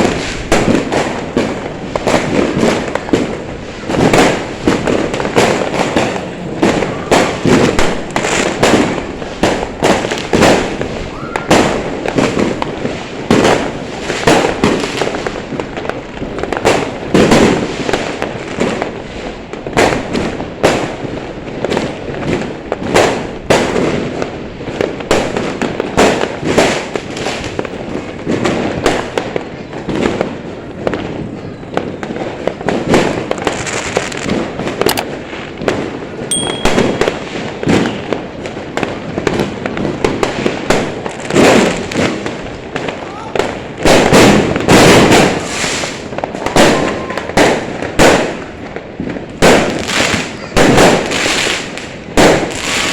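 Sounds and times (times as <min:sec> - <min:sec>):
fireworks banging: 0:00.0 - 0:52.9.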